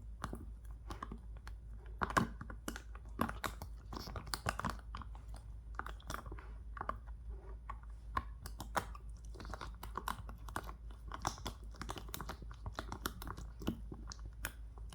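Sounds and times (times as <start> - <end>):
dog crunching dry kibble: 0.0 - 14.9.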